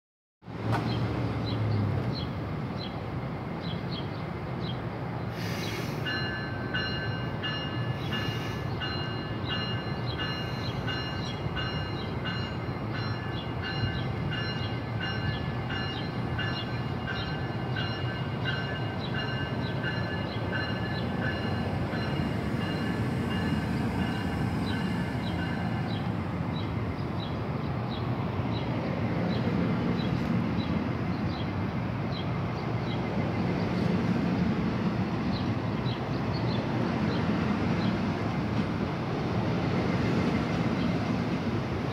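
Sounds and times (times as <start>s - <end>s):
train coaches rumbling past: 0.4s - 41.9s.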